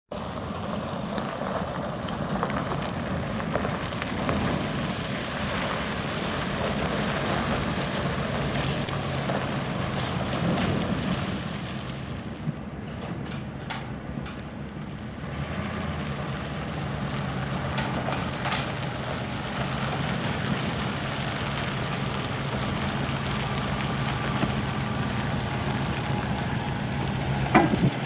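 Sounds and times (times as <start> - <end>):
van engine idling: 0.1 - 28.0.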